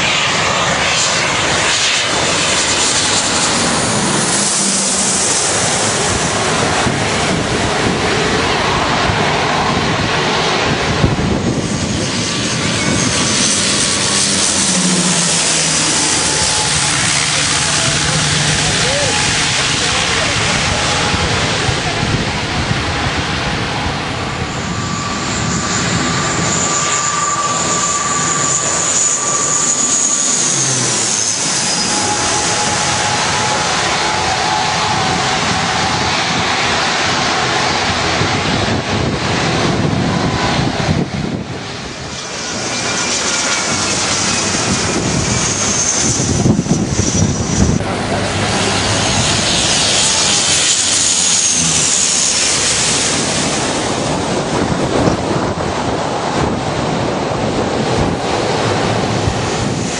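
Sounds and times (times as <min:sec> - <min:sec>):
propeller plane passing overhead: 0:00.0 - 0:59.9.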